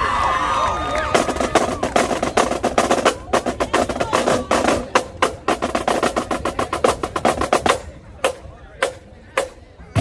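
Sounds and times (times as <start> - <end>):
marching drumline cadence: 1.1 - 10.0.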